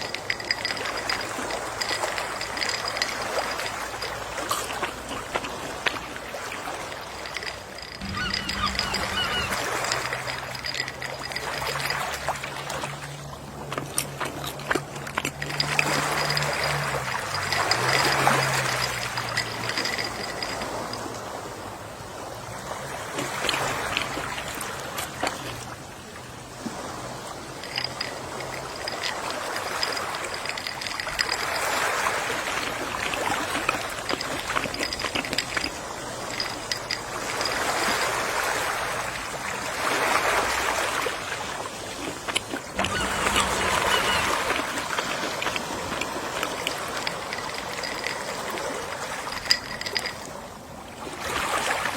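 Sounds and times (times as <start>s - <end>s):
sea waves washing ashore: 0.0s - 51.9s.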